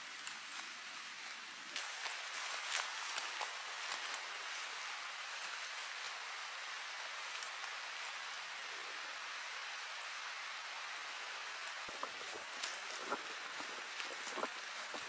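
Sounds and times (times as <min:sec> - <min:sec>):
light drizzle hissing: 0:00.0 - 0:15.0.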